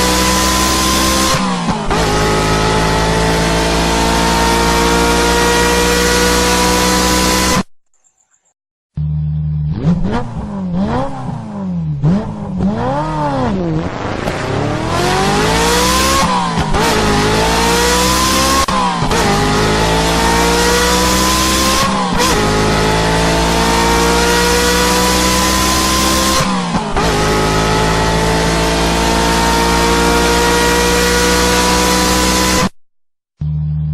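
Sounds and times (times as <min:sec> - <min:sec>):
car engine revving and accelerating: 0:00.0 - 0:07.7, 0:09.0 - 0:32.8.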